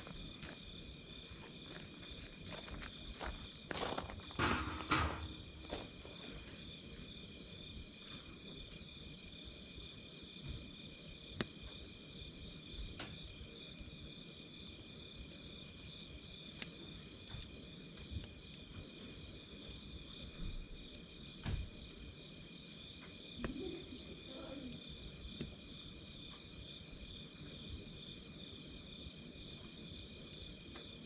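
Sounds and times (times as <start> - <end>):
campfire crackling: 0.0 - 31.0
crickets chirring: 0.0 - 31.0.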